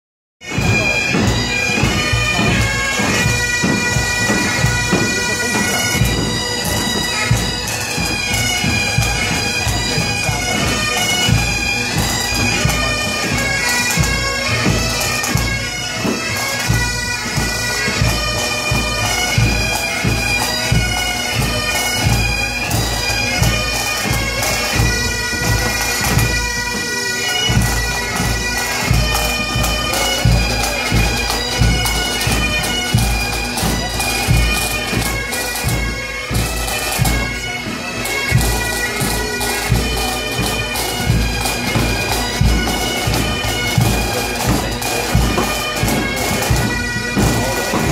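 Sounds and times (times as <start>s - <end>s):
bagpipes playing melody: 0.4s - 47.9s.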